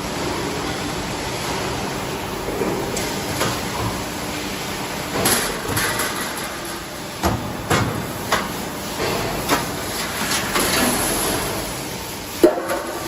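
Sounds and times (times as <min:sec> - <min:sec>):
production line machinery running: 0:00.0 - 0:13.0.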